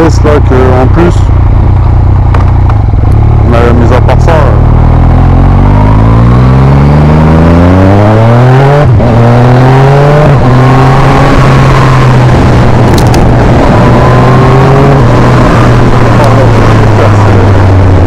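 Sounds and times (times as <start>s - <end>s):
motorcycle engine accelerating: 0.0s - 18.0s
quickshifter upshifts: 0.0s - 18.0s.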